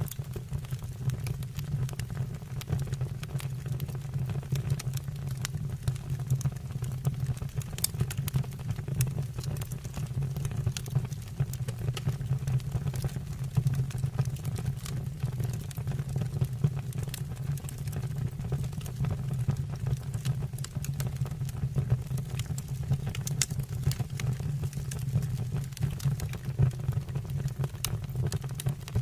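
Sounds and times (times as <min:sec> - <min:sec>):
low fire rumble: 0:00.0 - 0:29.0
wood fire crackling and popping: 0:00.0 - 0:29.0.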